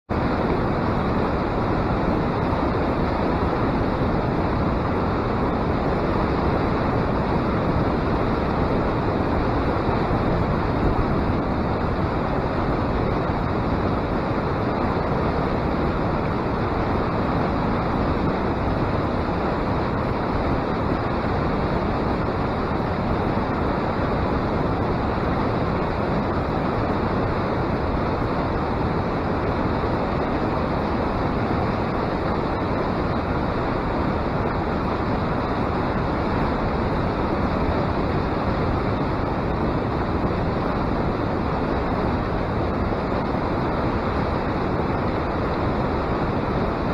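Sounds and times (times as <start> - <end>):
river water rushing: 0.1 - 46.9.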